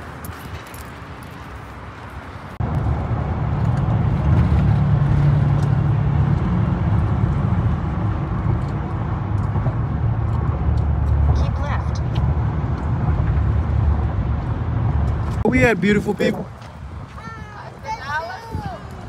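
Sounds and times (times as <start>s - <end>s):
car road noise rumble: 0.0s - 19.0s
outdoor background: 0.0s - 19.0s.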